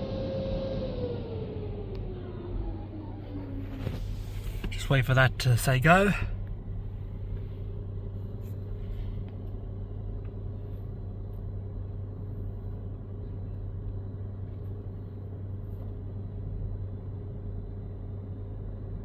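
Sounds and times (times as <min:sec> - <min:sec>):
car wash rumble and hum: 0:00.0 - 0:19.0.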